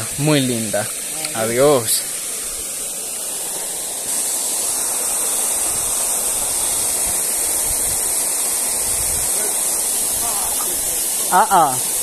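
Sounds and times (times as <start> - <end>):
river water rushing: 0.9 - 12.0.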